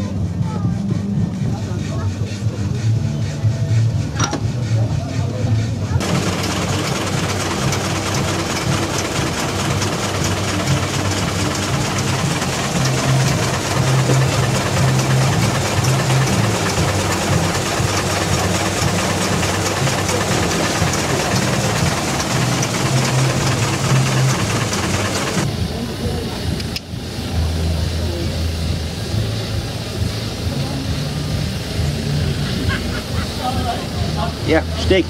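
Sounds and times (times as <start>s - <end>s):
steady low hum: 0.0s - 33.2s
steam engine exhaust hissing: 0.0s - 35.0s.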